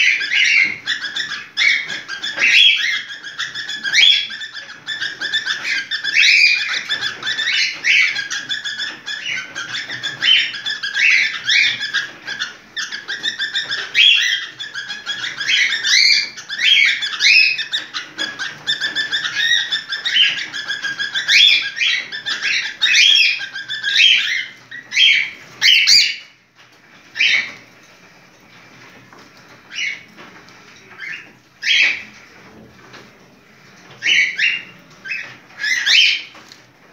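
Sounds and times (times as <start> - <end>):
cockatiel chirping and whistling: 0.0 - 26.3, 27.2 - 27.6, 30.9 - 32.0, 34.0 - 36.4.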